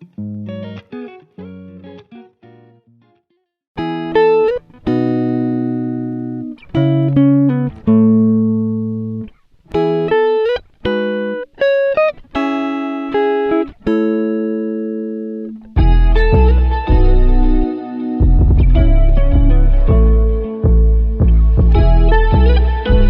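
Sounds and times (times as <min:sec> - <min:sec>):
plucked string music: 0:00.0 - 0:03.2, 0:03.8 - 0:23.0.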